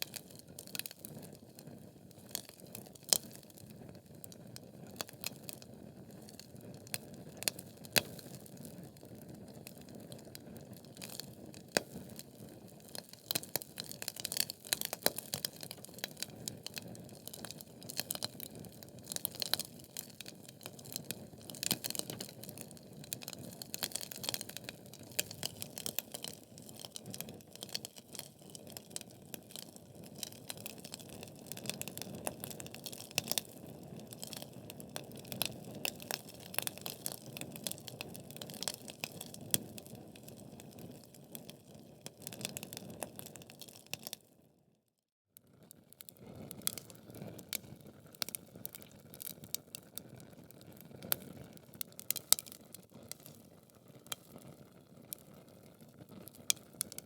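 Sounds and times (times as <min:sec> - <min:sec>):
wood fire crackling and popping: 0:00.0 - 0:44.2, 0:46.1 - 0:57.0.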